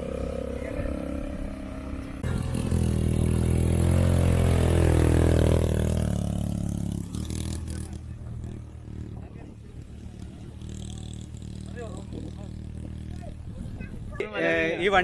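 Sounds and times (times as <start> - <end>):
loud atv engine running: 0.0 - 13.8.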